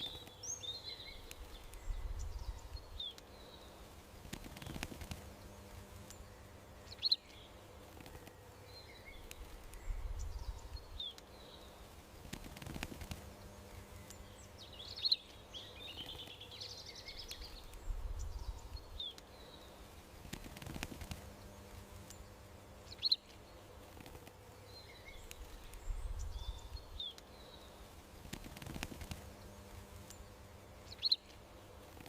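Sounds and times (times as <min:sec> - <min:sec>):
birds twittering and warbling: 0:00.0 - 0:32.0
faint steady background hum: 0:00.0 - 0:32.0
songbirds chirping: 0:00.0 - 0:32.0.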